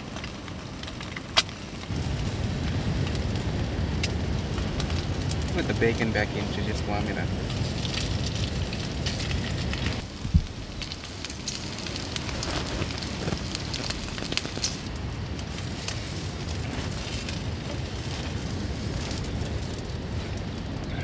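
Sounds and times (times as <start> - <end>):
fat popping and crackling: 0.0 - 21.0.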